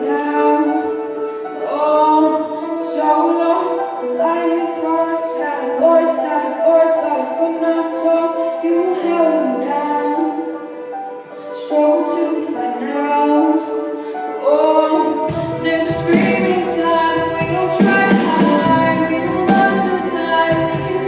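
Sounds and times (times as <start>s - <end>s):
musical accompaniment: 0.0s - 21.0s
woman singing a ballad: 0.0s - 21.0s.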